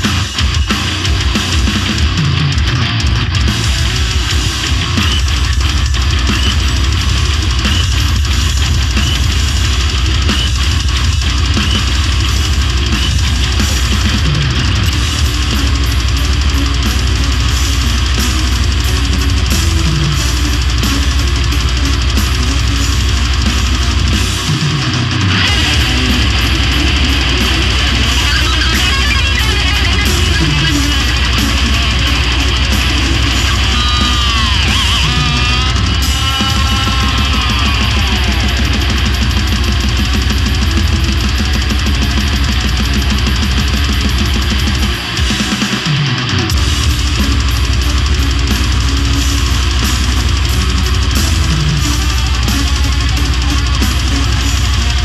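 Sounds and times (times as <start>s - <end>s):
heavy metal music: 0.0s - 55.0s.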